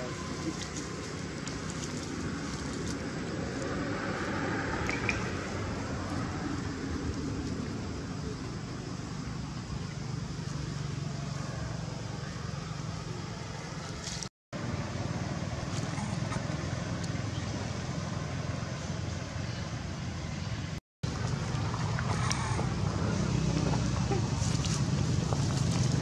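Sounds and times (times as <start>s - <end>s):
low rumble of outdoor noise: 0.0s - 26.0s.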